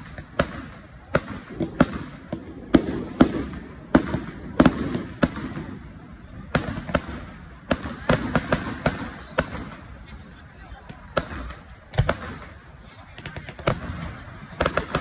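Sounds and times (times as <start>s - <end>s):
fireworks bangs with rumbling echo: 0.0s - 15.0s.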